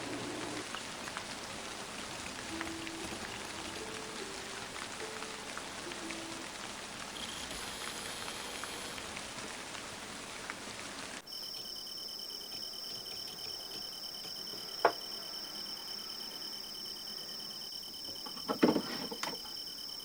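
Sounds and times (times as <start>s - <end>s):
crickets trilling: 0.0s - 9.1s, 11.0s - 20.0s
rain-like hiss: 0.0s - 20.0s.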